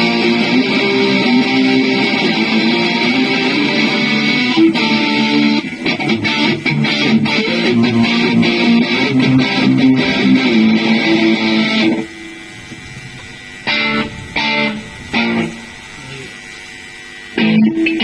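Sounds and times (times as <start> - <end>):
electric guitar strumming: 0.0 - 18.0.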